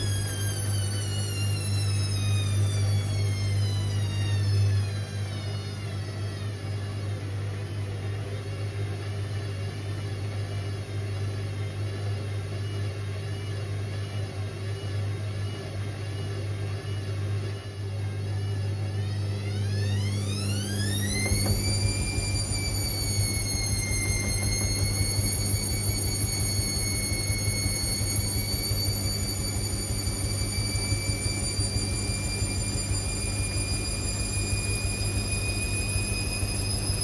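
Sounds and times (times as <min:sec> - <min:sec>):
washing machine motor whine: 0:00.0 - 0:37.0.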